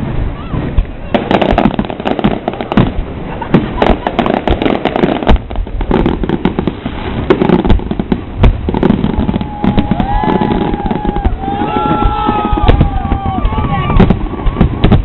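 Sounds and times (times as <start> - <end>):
fireworks bangs and crackles: 0.0 - 15.0
fireworks whistling: 0.0 - 15.0.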